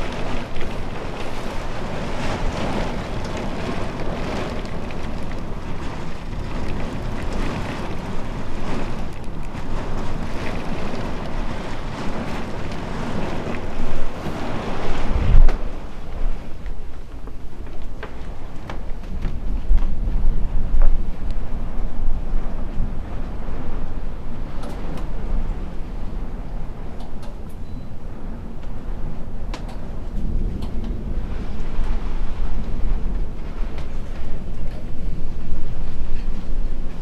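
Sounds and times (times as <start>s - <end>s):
gusting wind: 0.0s - 37.0s
heavy rain: 0.0s - 37.0s
wind buffeting microphone: 0.0s - 37.0s.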